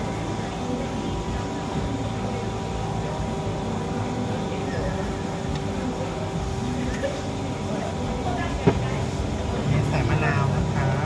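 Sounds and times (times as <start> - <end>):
faint background voices: 0.0 - 11.0
steady machine hum: 0.0 - 11.0.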